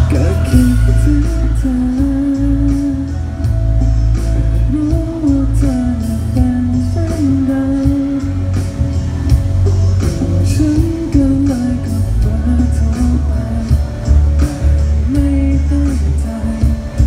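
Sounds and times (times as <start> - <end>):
man singing: 0.0 - 3.7, 4.5 - 8.8, 10.0 - 17.0
band with guitar and bass: 0.0 - 17.0.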